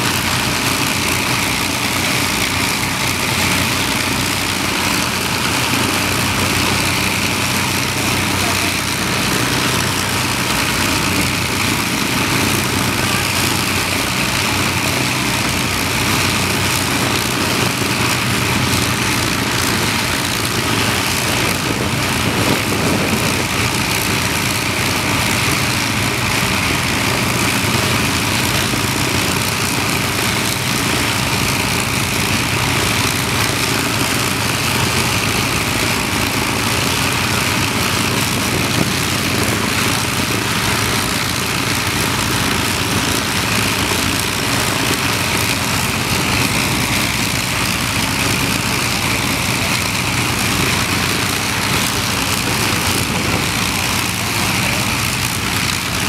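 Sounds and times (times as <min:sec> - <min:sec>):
propeller plane engines idling: 0:00.0 - 0:56.0.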